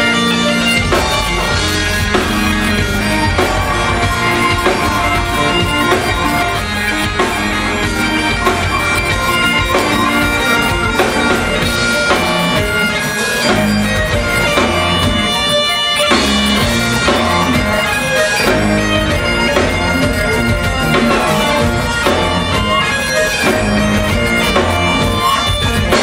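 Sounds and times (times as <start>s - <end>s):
bagpipes melody: 0.0s - 26.0s
drum kit: 0.0s - 26.0s
electric guitars: 0.0s - 26.0s.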